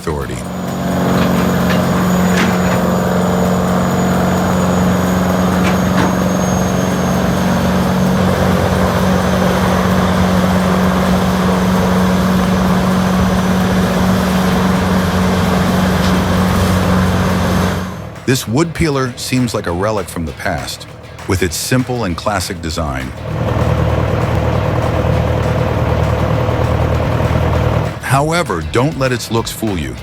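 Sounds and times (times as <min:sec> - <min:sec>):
rotor grinding tree trunk: 0:00.0 - 0:28.1
grinder diesel engine drone: 0:00.0 - 0:30.0.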